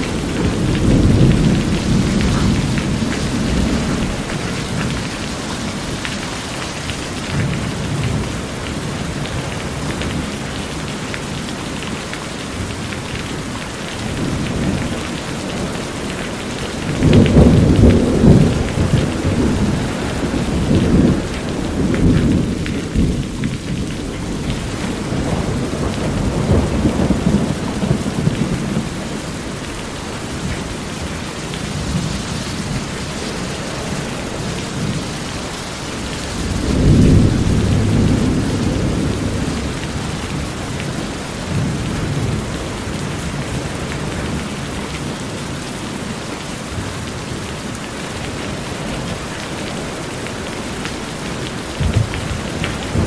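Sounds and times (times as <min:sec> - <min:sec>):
thunder rumbling: 0:00.0 - 0:11.0, 0:12.6 - 0:45.2, 0:50.7 - 0:53.0
rain falling on a roof: 0:00.0 - 0:53.0.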